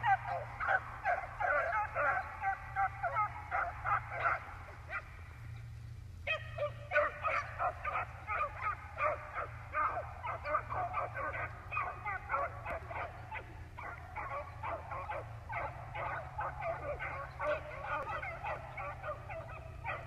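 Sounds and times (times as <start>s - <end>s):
dogs baying and yelping: 0.0s - 5.5s, 6.2s - 20.0s.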